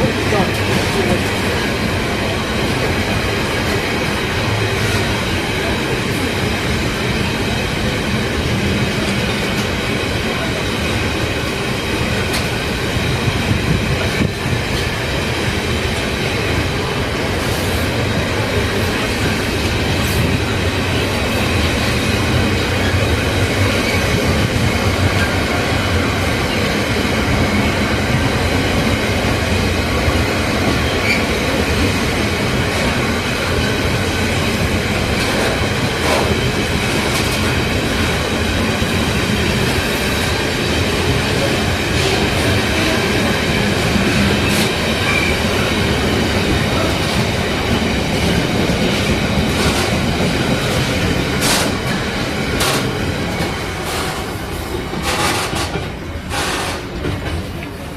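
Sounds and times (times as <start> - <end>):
train rolling along track: 0.0 - 57.9.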